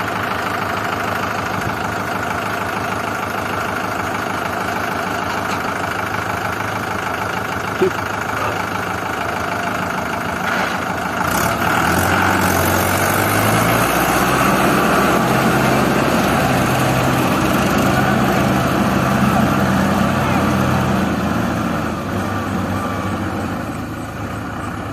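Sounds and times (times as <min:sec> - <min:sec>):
heavy diesel engine revving: 0:00.0 - 0:24.9.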